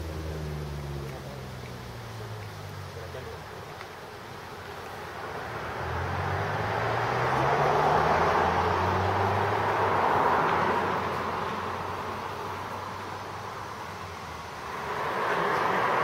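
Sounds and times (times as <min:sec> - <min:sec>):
motor vehicle passing: 0:00.0 - 0:16.0.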